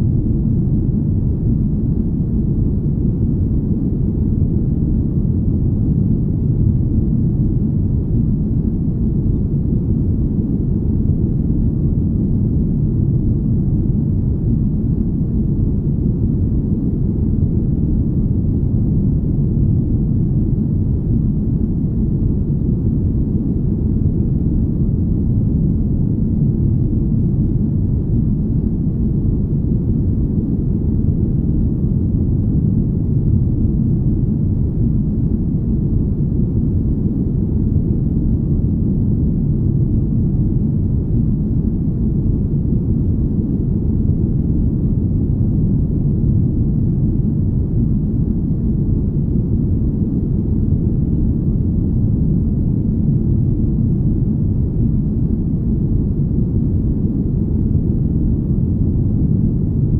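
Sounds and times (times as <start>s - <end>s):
deep smooth rumbling: 0.0s - 59.9s.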